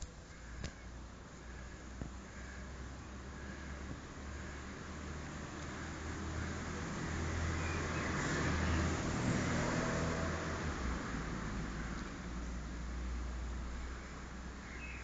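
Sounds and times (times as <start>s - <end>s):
outdoor rumble with hiss: 0.0s - 15.0s.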